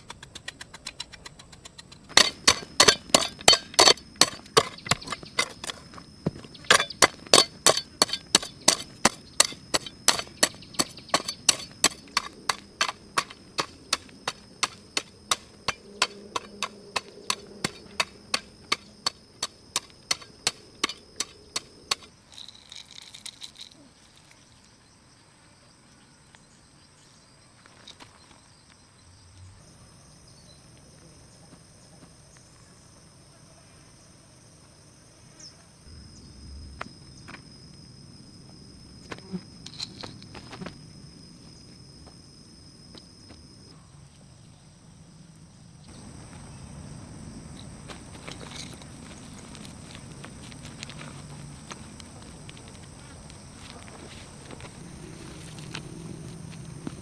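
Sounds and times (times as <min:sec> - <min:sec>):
insect chirping: 0:00.0 - 0:57.0.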